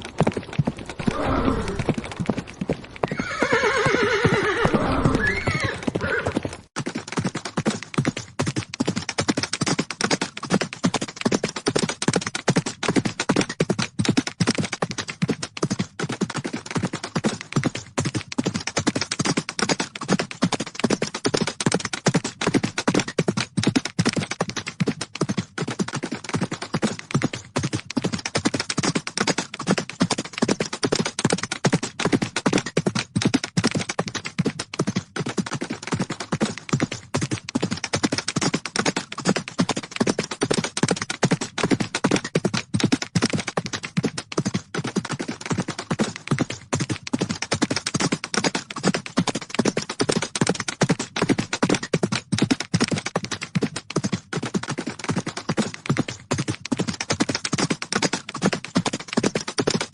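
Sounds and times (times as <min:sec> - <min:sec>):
horses hooves galloping: 0:00.0 - 0:59.9.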